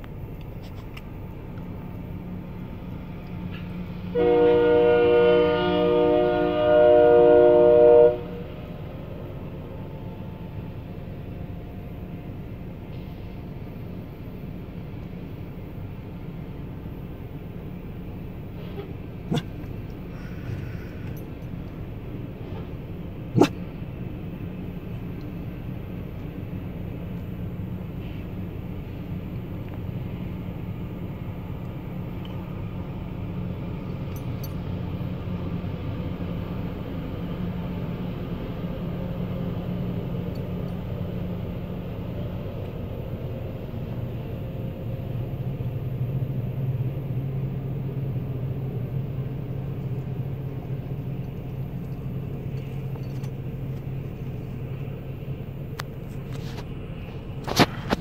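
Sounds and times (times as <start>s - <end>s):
engine drone: 0.0s - 58.0s
train rumbling past: 0.0s - 58.0s.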